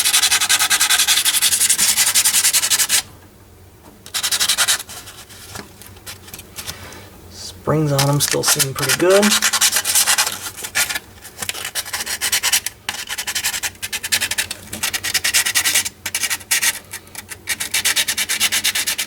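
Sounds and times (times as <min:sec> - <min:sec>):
sandpaper rubbing on metal: 0:00.0 - 0:03.0, 0:04.1 - 0:05.5, 0:08.0 - 0:19.0.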